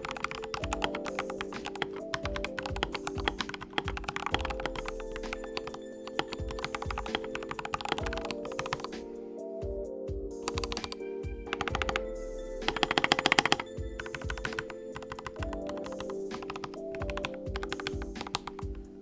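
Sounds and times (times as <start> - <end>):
mechanical keyboard typing: 0.0 - 9.2, 10.4 - 18.9
background music: 0.0 - 19.0.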